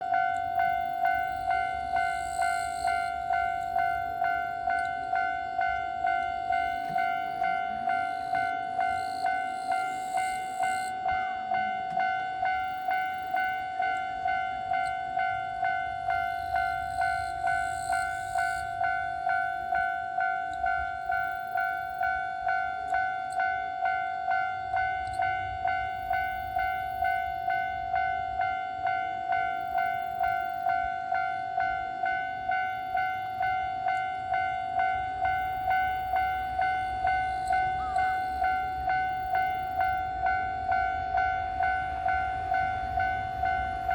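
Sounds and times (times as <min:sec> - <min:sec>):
railroad crossing alarm ringing: 0:00.0 - 0:43.9
train low rumble: 0:00.0 - 0:43.9.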